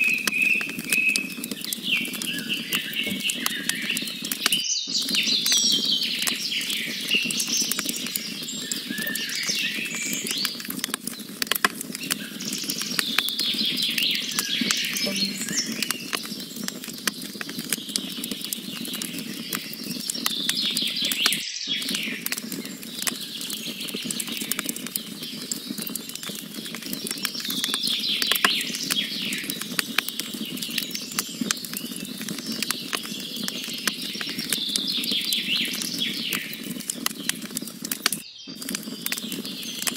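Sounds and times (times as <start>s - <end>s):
birds singing: 0.0s - 37.5s, 38.1s - 39.9s
campfire crackling and popping: 0.0s - 39.9s.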